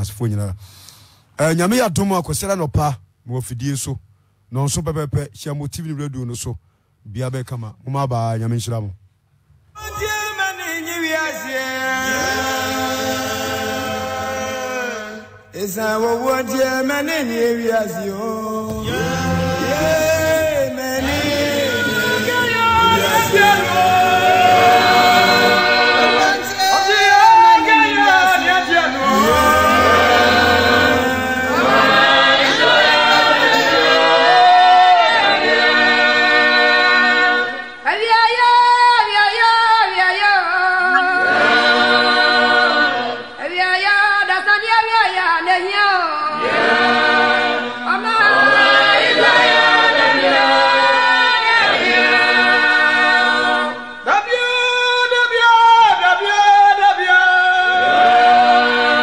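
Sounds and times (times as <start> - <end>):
choir singing gospel song: 9.9 - 59.0.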